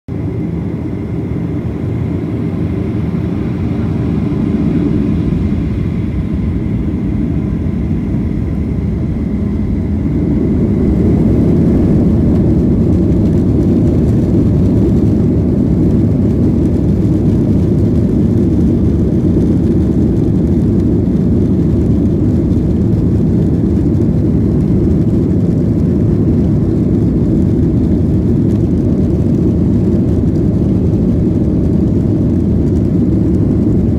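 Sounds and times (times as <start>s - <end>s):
faint high whine: 0.1s - 28.4s
jet engines rumbling in cabin: 0.1s - 33.9s.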